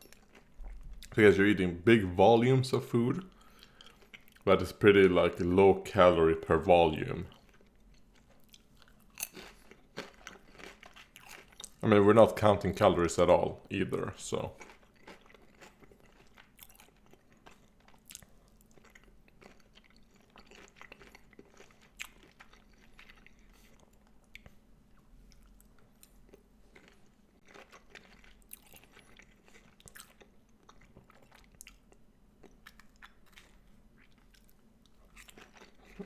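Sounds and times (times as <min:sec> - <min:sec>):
faint chewing: 0:00.0 - 0:01.4, 0:02.8 - 0:36.0.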